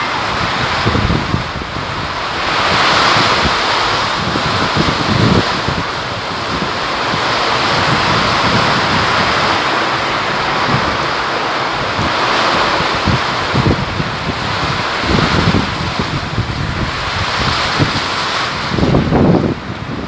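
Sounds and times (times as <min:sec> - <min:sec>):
heavy rain pouring: 0:00.0 - 0:20.0
wind buffeting microphone: 0:00.0 - 0:20.0.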